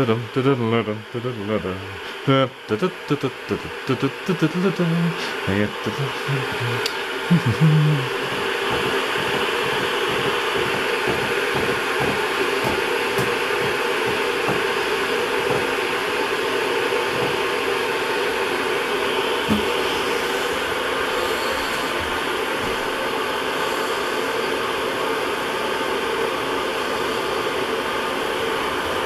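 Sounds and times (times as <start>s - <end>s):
kettle rushing hiss: 0.0s - 29.0s.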